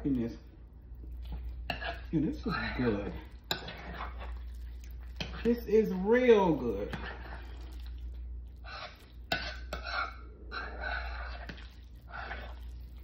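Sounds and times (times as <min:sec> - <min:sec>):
low steady hum: 0:00.0 - 0:13.0
wet mixing scrapes: 0:00.0 - 0:13.0.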